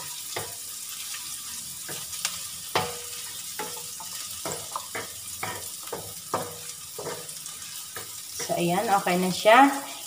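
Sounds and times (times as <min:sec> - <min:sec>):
spatula knocking and scraping pan: 0:00.0 - 0:00.7, 0:01.8 - 0:09.2
onion sizzling in oil: 0:00.0 - 0:10.0.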